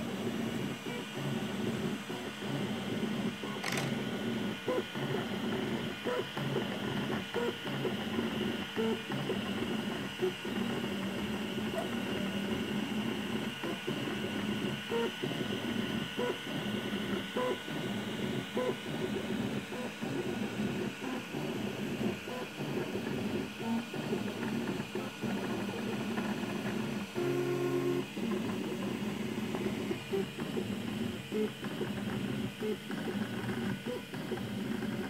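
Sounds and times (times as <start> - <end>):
printer stepper motors whirring: 0.0 - 35.0.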